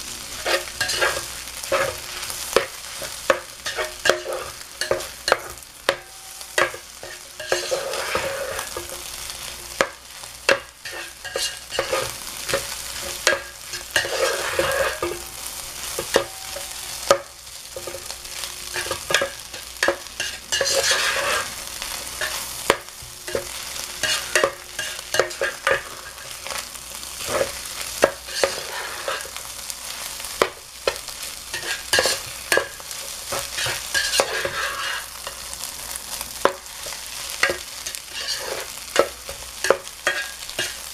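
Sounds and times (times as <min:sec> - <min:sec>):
food sizzling in a skillet: 0:00.0 - 0:40.9
spatula scraping and knocking pan: 0:00.3 - 0:40.9.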